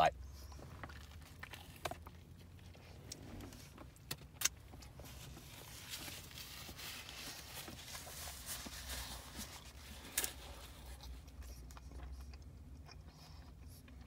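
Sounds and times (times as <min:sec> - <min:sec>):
man chewing: 0:00.5 - 0:14.0.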